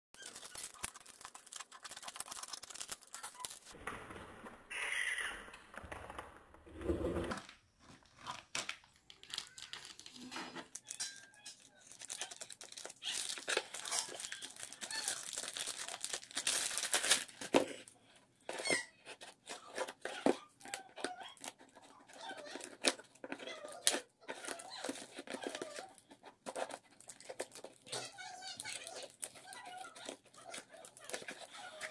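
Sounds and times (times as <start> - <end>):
plastic bag crinkling and tearing: 0.2 - 3.8, 8.0 - 17.9, 19.4 - 31.9
scissors cutting plastic: 0.2 - 3.8, 8.2 - 17.8, 18.5 - 31.9.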